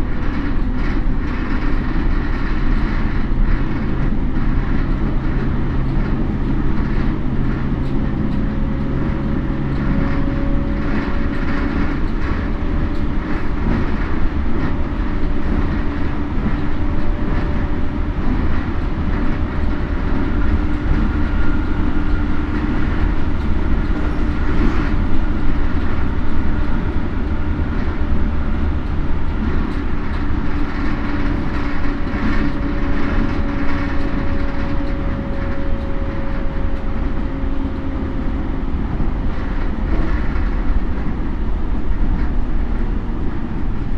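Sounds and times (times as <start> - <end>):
wheel-on-rail rumble: 0.0 - 43.9.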